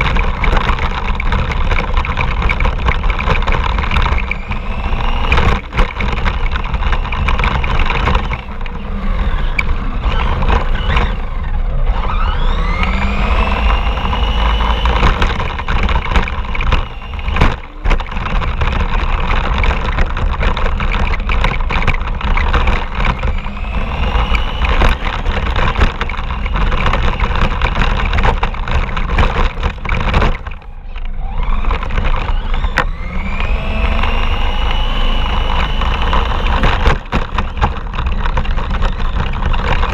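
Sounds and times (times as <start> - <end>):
electric motor whine: 0.0 - 39.9
wheels and chassis rattling: 0.0 - 39.9.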